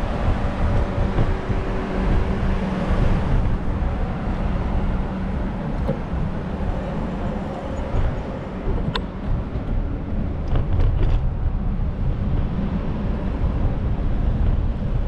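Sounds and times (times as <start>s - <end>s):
vehicle engine humming: 0.0s - 15.0s
wind rumble on microphone: 0.0s - 15.0s.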